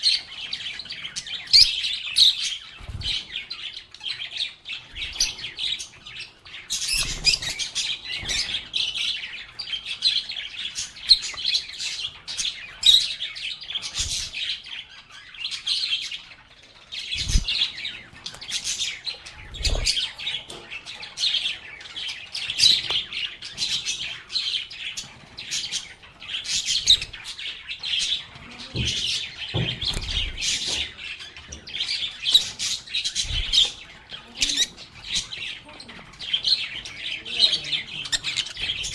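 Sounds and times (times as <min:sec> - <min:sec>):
lovebirds chirping and chattering: 0:00.0 - 0:38.9.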